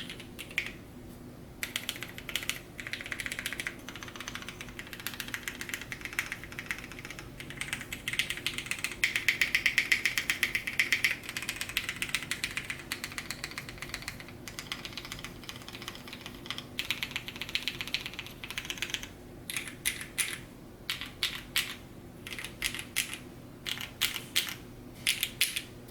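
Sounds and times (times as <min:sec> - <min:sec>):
mechanical keyboard typing: 0:00.0 - 0:00.8, 0:01.6 - 0:25.6.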